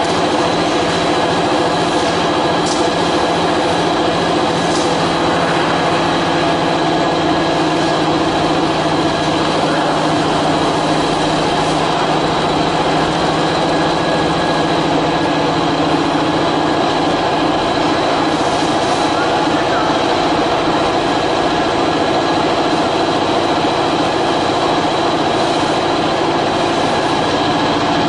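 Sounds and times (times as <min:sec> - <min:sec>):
cnc router whining: 0:00.0 - 0:28.0.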